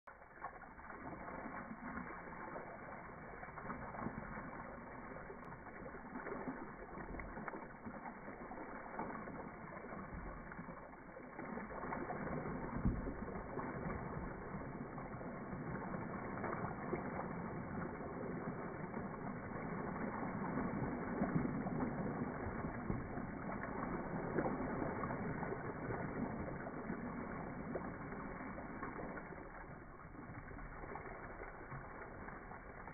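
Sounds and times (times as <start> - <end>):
water rushing over stones: 0.1 - 32.9.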